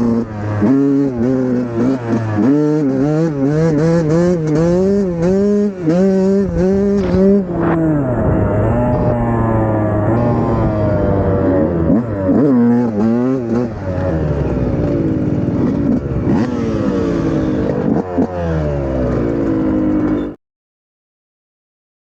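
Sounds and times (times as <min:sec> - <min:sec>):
dirt bike engine revving: 0:00.0 - 0:20.4.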